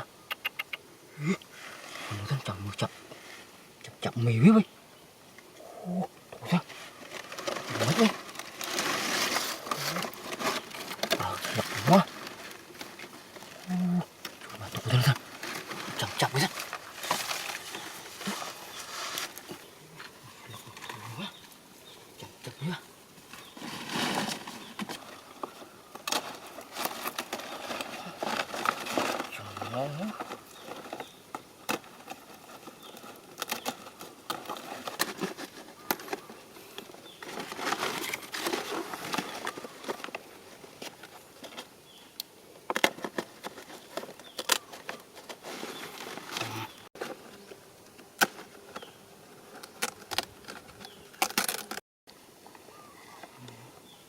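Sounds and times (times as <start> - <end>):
faint background noise: 0.0 - 54.0
leaves rustling and crackling: 0.1 - 54.0.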